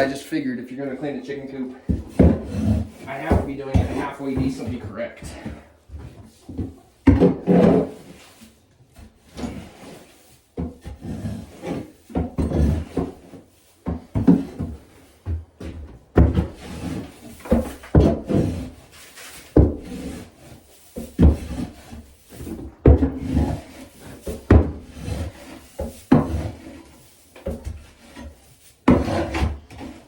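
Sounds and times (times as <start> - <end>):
tool scraping wooden boards: 0.0 - 30.0.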